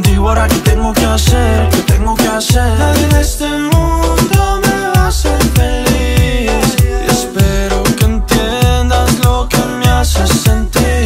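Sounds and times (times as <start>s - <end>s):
latin pop song: 0.0s - 11.0s.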